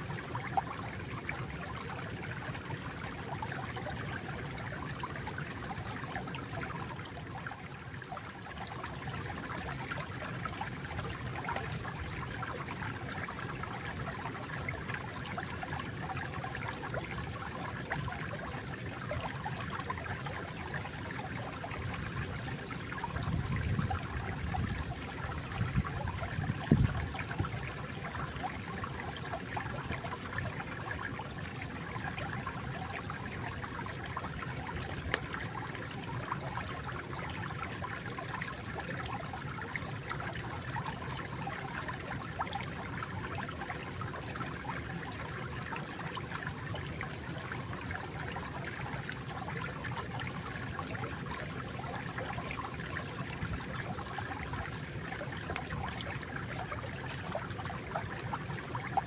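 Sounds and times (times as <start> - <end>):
low water gurgling surge: 0.0 - 59.0
water trickling and babbling: 0.0 - 59.0.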